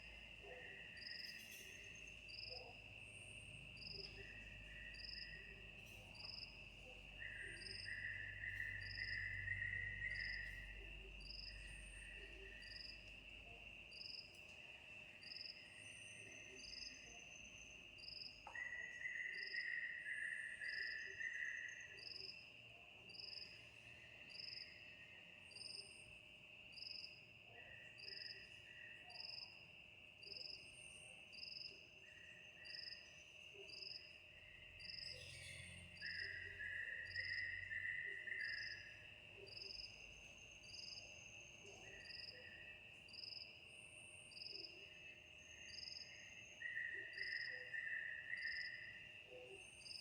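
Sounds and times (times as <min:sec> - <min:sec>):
crickets trilling: 0:00.0 - 0:50.0
lower insect chirping: 0:00.0 - 0:50.0.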